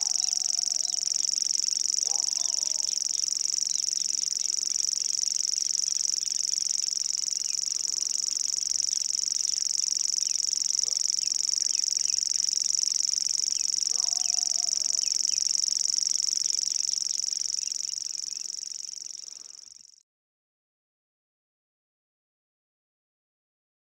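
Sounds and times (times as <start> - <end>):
warbler reeling trill: 0.0 - 20.0.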